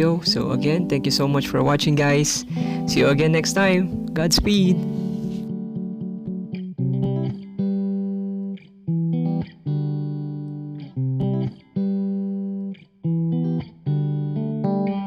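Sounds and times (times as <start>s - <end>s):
plucked guitar chords: 0.0s - 15.0s.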